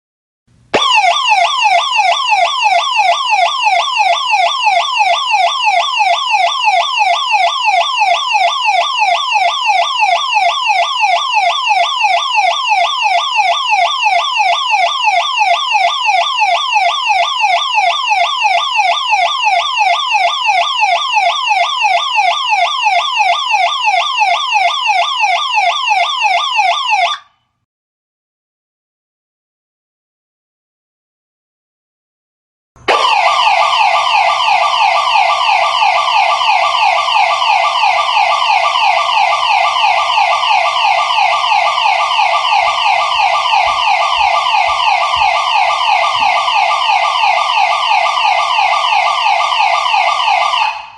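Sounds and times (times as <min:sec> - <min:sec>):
security alarm siren yelping: 0:00.8 - 0:27.3, 0:32.9 - 0:50.9.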